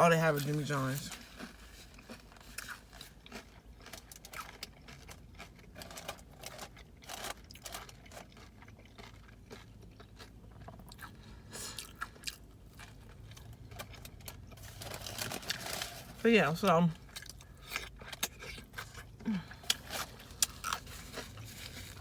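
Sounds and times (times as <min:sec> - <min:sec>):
person chewing crunchy chips: 0:00.0 - 0:22.0.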